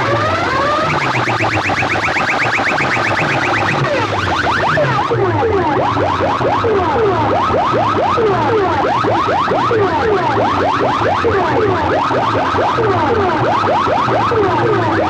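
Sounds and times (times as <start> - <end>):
siren-like electronic sweeps: 0.0 - 15.0.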